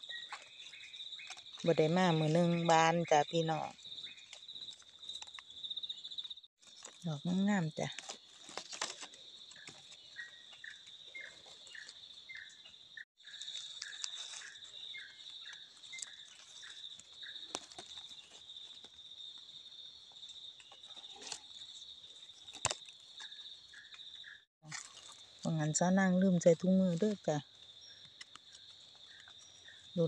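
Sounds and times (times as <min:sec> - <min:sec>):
crickets chirring: 0:00.0 - 0:30.0
lower insect chirp: 0:00.0 - 0:30.0.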